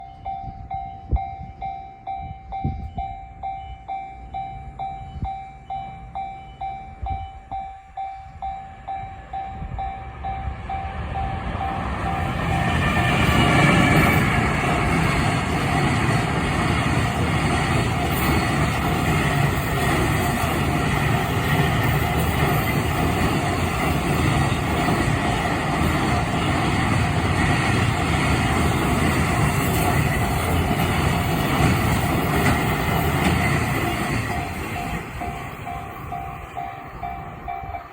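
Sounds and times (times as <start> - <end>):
freight train wheels rumbling: 0.0 - 37.9
level crossing warning bell: 0.0 - 37.9.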